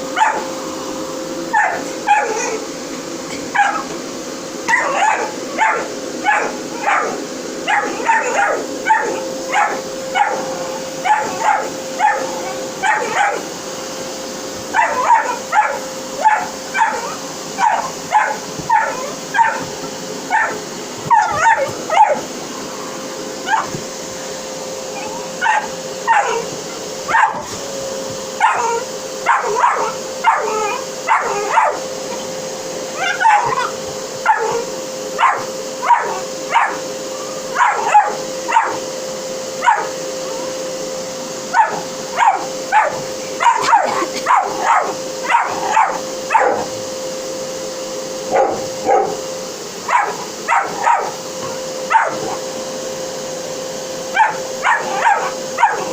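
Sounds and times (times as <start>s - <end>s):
vacuum cleaner running: 0.0s - 55.9s
dog barking and yapping: 0.1s - 0.5s, 1.5s - 2.7s, 3.4s - 4.0s, 4.6s - 13.6s, 14.6s - 22.3s, 23.4s - 23.9s, 24.9s - 38.8s, 39.6s - 40.4s, 41.5s - 46.8s, 48.3s - 49.2s, 49.8s - 52.4s, 54.1s - 55.9s.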